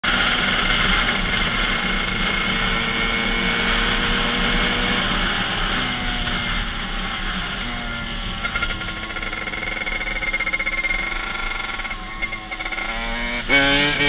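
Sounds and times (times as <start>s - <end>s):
two-stroke engine high revs: 0.0s - 14.0s.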